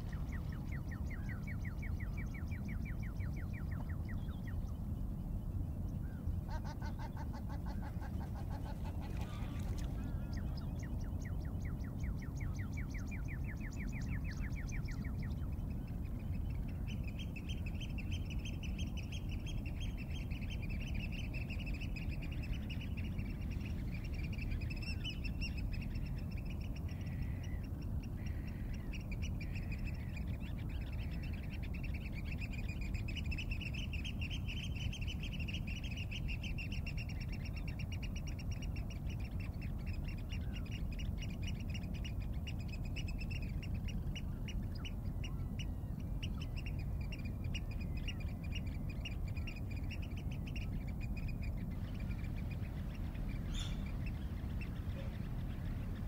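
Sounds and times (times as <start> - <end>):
low steady rumble: 0.0 - 56.0.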